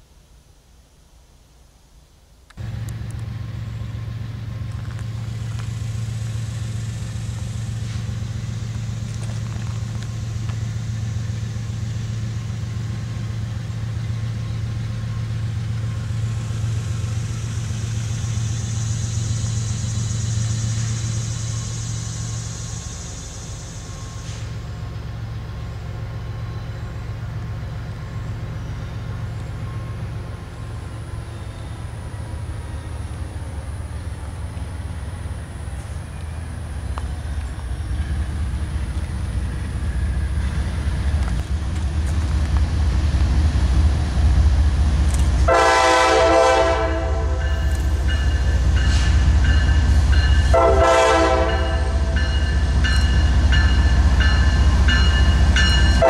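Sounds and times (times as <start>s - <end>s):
diesel locomotive rumble: 2.5s - 56.0s.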